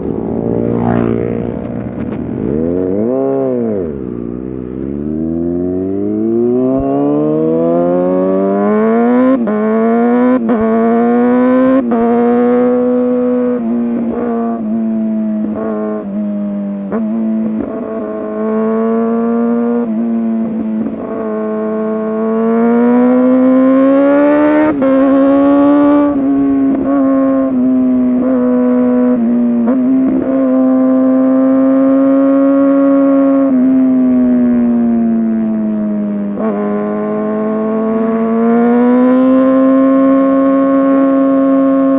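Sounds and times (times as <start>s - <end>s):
motorcycle engine accelerating hard: 0.0s - 41.9s.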